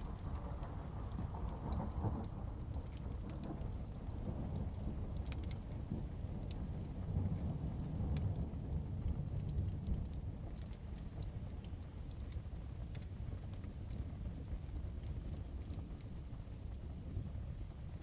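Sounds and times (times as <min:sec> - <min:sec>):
heavy rain: 0:00.0 - 0:18.0
wood fire crackling and popping: 0:00.0 - 0:18.0.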